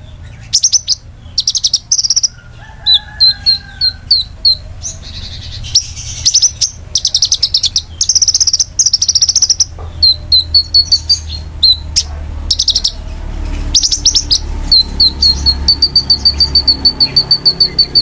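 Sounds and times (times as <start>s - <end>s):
bird chip notes: 0.0s - 18.0s
songbird singing trills: 0.0s - 18.0s.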